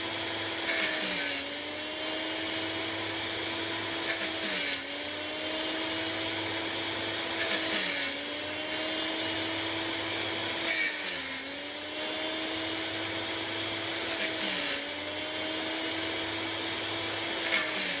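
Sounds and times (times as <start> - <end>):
grinder motor humming: 0.0 - 18.0
grinding wheel on saw teeth: 0.0 - 18.0.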